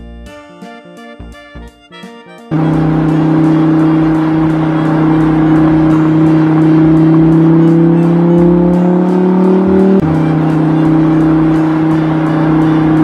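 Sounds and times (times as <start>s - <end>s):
music with ticking beat: 0.0s - 13.0s
car engine droning: 2.5s - 13.0s.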